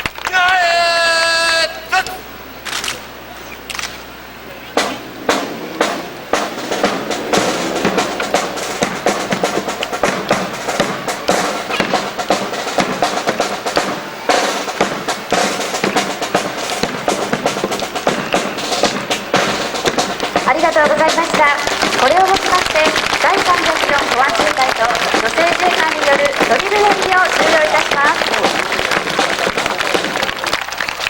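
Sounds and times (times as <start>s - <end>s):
drum-led band music: 4.0s - 31.0s
snare drum: 4.7s - 31.0s.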